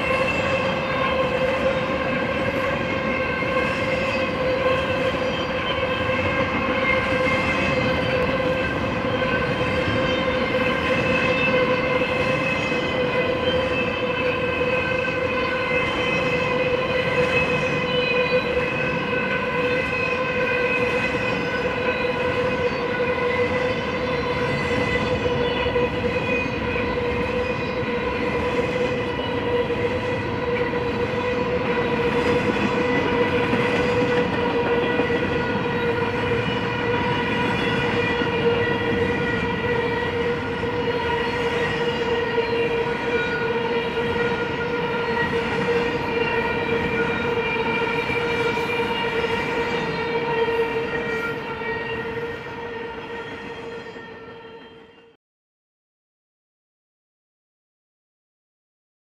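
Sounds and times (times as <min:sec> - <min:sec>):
steel wheels rumbling on rail: 0:00.0 - 0:54.6.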